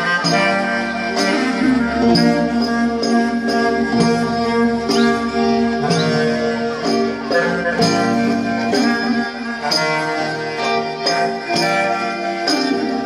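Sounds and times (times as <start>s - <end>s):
folk band playing dance tune: 0.0s - 13.0s.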